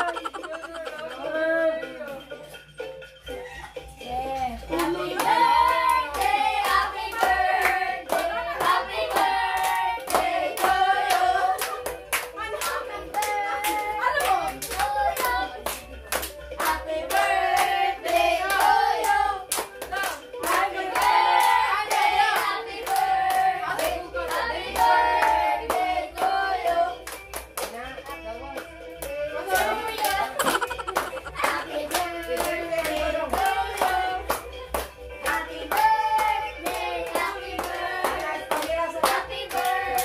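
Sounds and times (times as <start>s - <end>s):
group singing: 0.0s - 2.4s, 4.0s - 27.2s, 29.0s - 40.0s
hands clapping in time: 4.7s - 26.3s, 27.0s - 40.0s.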